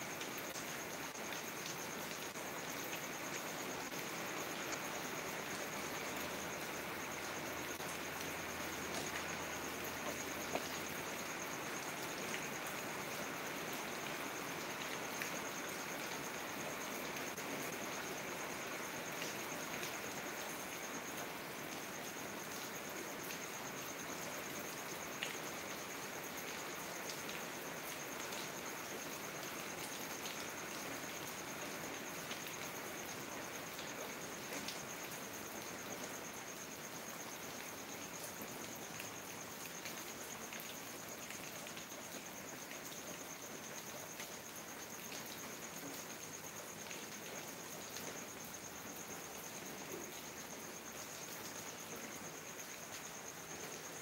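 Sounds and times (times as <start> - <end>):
rain on foliage and pavement: 0.0 - 54.0.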